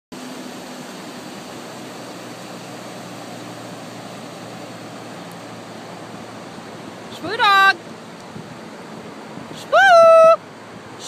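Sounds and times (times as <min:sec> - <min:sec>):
ocean surf breaking: 0:00.2 - 0:11.0.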